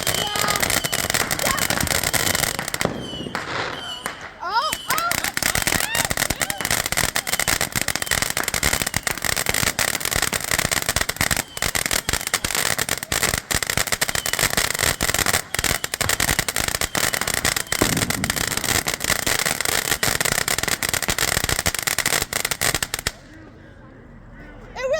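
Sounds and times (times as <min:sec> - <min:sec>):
firework fountain crackling: 0:00.0 - 0:23.4.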